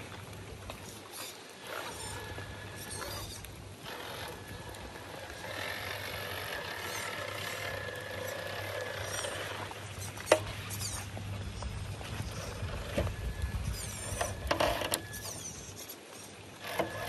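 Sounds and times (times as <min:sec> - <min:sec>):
electric motor and gears whining: 0:00.7 - 0:17.0.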